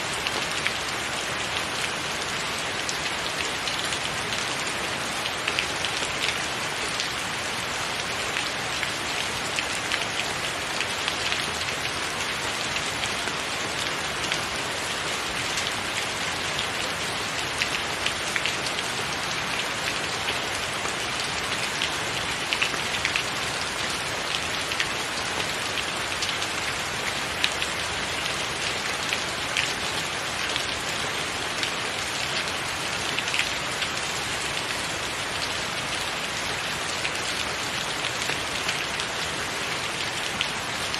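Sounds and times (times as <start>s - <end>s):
rain on a tiled roof: 0.0s - 40.9s.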